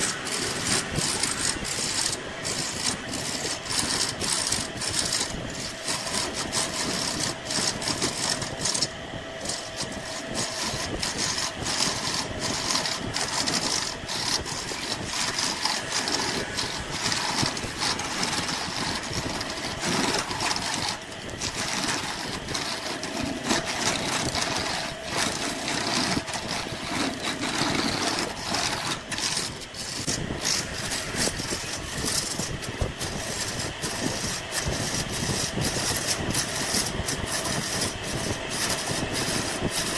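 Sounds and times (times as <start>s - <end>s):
faint motor hum: 0.0s - 39.9s
lathe tool shaving wood: 0.0s - 39.9s.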